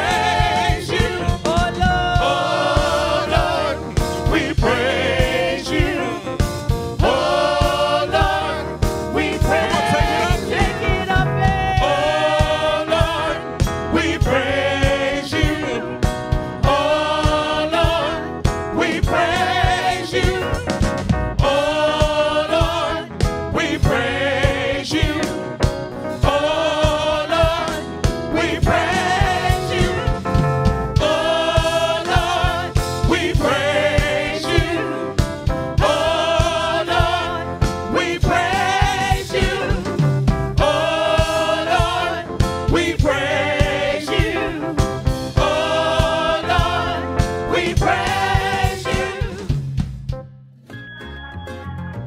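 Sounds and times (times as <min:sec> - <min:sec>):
vocal group singing: 0:00.0 - 0:20.8, 0:21.4 - 0:49.6
keyboard over a steady beat: 0:00.0 - 0:50.3.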